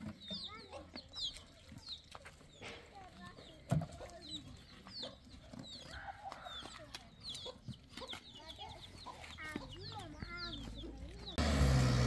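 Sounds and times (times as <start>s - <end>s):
chickens clucking: 0.0s - 11.4s
small birds chirping: 0.0s - 11.5s.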